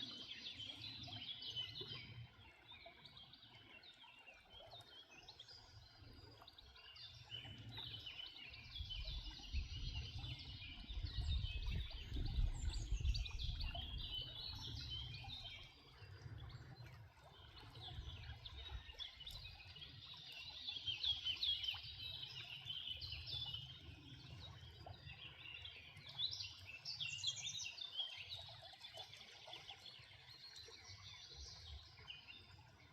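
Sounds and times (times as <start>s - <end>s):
songbirds chirping and trilling: 0.0s - 32.9s.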